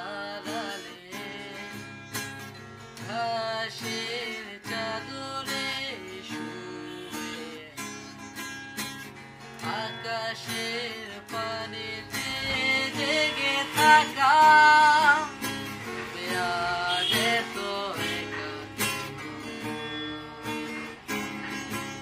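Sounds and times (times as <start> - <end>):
man singing: 0.0 - 2.4, 3.0 - 8.2, 9.6 - 21.0
acoustic guitar strumming: 0.0 - 22.0.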